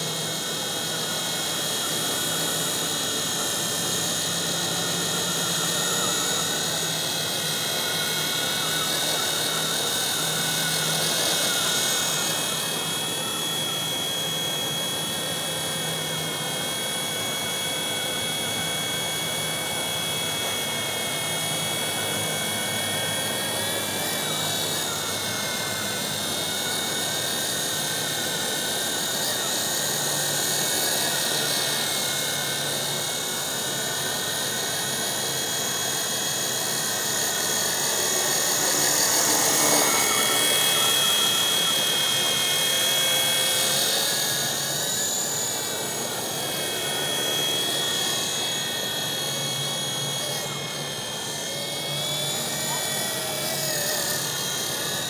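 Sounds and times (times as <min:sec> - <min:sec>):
rc helicopter motor whine: 0:00.0 - 0:55.0
rotor whirring hum: 0:00.0 - 0:55.0.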